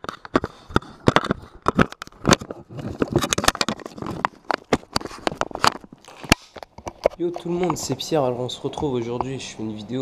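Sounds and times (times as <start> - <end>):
camera handling knocks and scrapes: 0.0 - 8.0.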